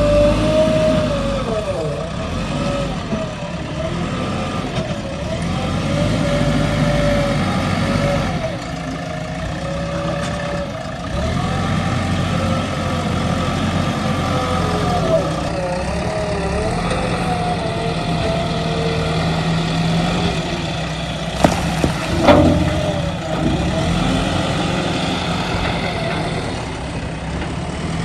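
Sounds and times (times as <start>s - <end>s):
backhoe diesel engine under load: 0.0s - 28.0s.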